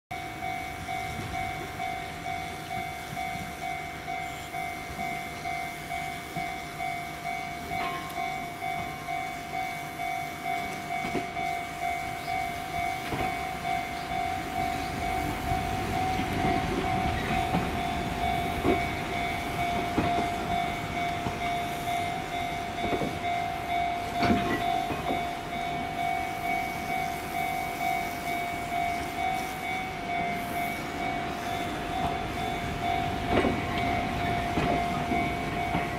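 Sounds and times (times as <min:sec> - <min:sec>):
electric train rolling past: 0:00.1 - 0:35.9
level-crossing alarm dinging: 0:00.1 - 0:35.9
train wheels clacking on rail joints: 0:04.9 - 0:27.0, 0:27.6 - 0:35.9.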